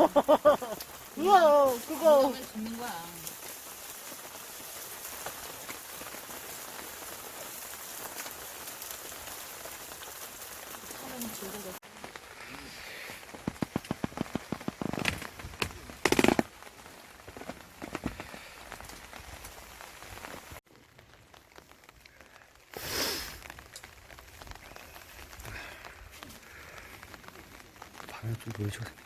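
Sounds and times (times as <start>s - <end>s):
rain pattering on tarp: 0.0s - 29.0s.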